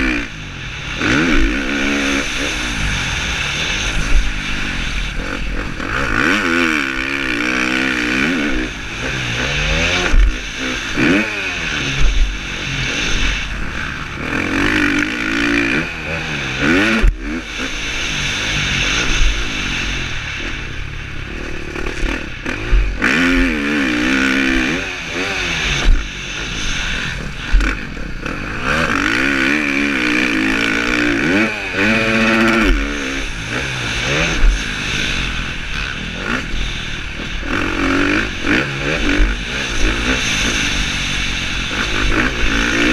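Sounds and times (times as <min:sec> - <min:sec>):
motocross engine revving: 0:00.0 - 0:42.9
steady hiss: 0:00.0 - 0:42.9.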